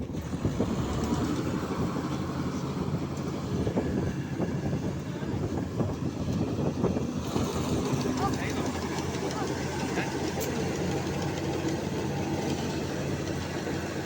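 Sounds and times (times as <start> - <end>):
combine harvester diesel engine: 0.0 - 14.0
machinery rattling clatter: 0.0 - 14.0.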